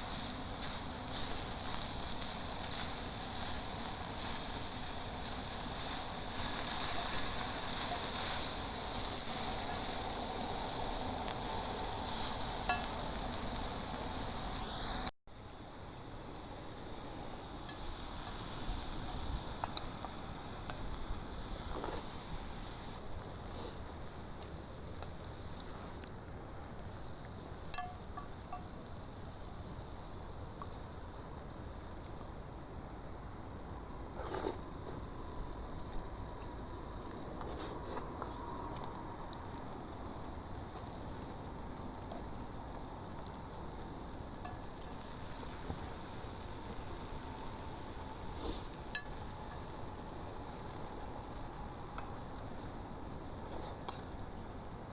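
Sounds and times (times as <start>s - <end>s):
fire pops and crackles: 0.0s - 54.9s
steak sizzling on a griddle: 0.0s - 54.9s.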